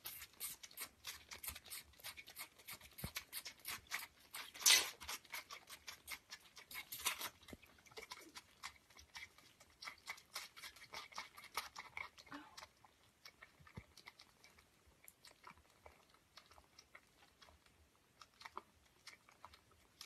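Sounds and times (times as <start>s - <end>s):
kittens suckling clicks: 0.0s - 20.0s.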